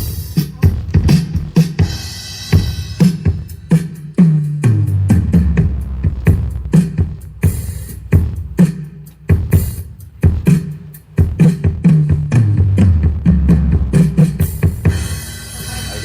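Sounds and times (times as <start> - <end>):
bass-heavy dance music: 0.0 - 16.0.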